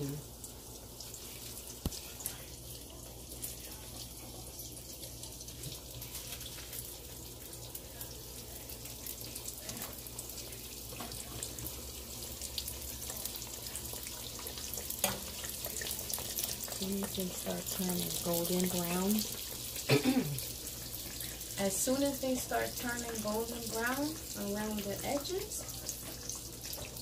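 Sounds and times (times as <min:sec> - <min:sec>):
deep-frying sizzle with crackling pops: 0:00.0 - 0:27.0.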